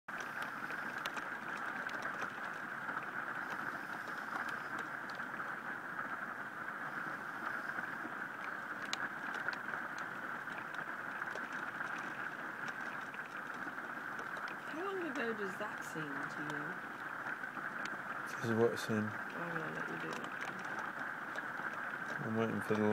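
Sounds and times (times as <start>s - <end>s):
sharp ticks of raindrops: 0.1s - 22.9s
heavy rain hissing: 2.7s - 22.9s.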